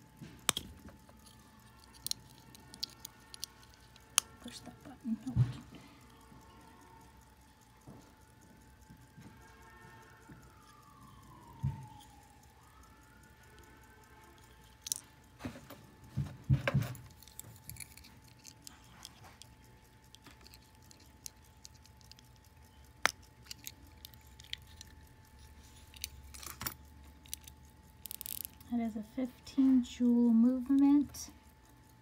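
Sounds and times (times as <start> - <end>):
pocket watch metal clicks: 0.0 - 28.7.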